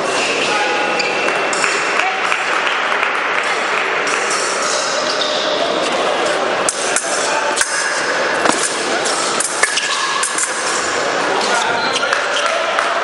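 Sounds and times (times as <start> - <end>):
babble of voices in a hall: 0.0 - 13.0.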